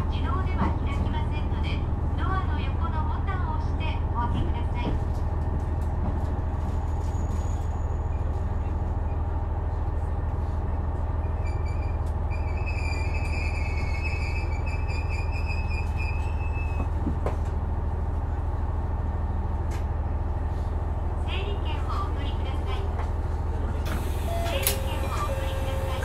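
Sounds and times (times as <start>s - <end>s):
train engine drone: 0.0s - 26.0s.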